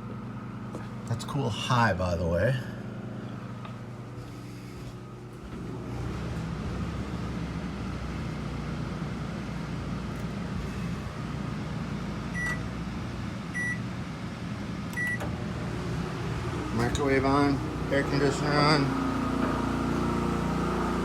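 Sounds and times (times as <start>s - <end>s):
generator humming: 0.0s - 21.0s.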